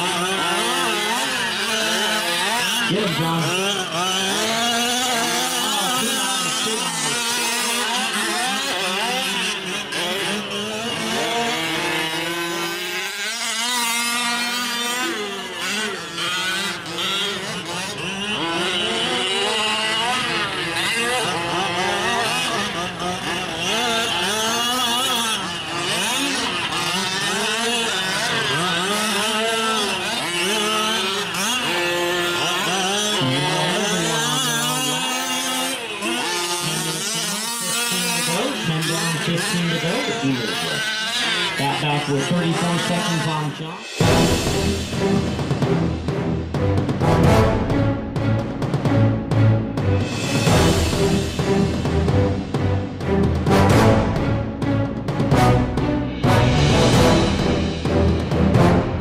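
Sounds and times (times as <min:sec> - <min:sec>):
rc truck engines revving: 0:00.0 - 0:59.0.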